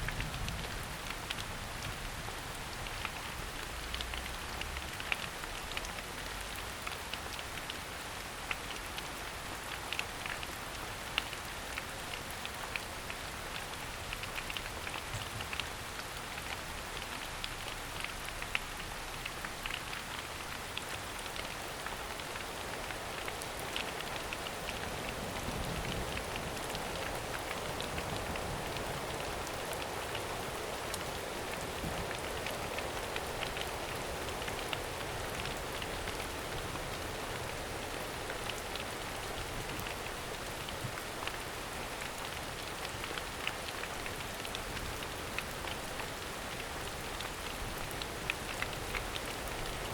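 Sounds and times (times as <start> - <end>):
rain falling in forest: 0.0 - 49.9.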